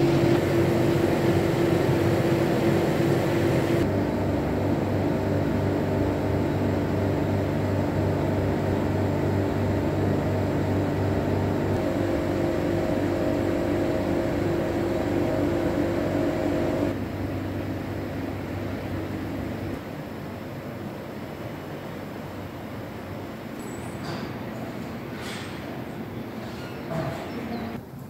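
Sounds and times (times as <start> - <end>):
mechanical hum with held tones: 0.0 - 28.0.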